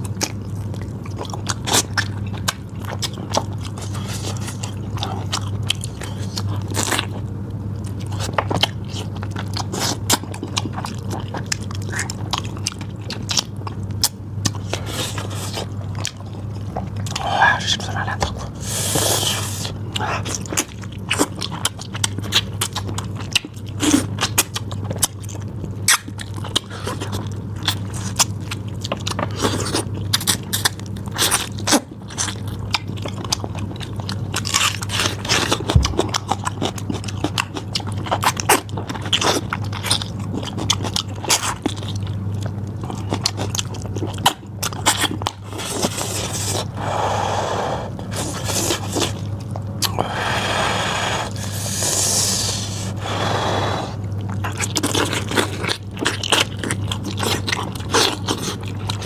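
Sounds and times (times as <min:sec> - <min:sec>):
chewing and biting: 0:00.0 - 0:46.9, 0:47.9 - 0:50.6, 0:51.2 - 0:59.0
low electrical hum: 0:00.0 - 0:59.0.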